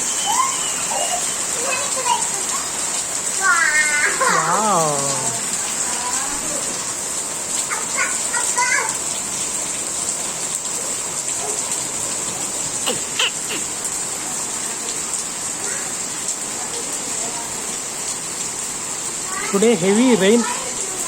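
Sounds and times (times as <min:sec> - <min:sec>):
heavy rain pattering: 0:00.0 - 0:21.0.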